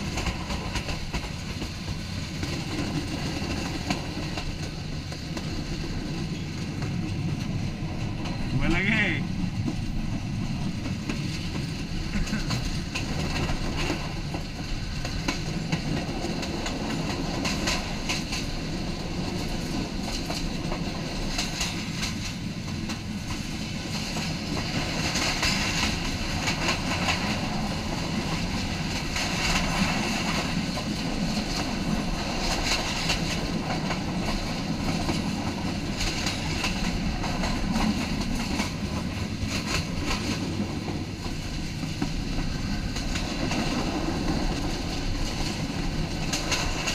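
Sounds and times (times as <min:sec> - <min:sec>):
train rumble: 0:00.0 - 0:46.9
train wheels clicking on track: 0:00.0 - 0:46.9.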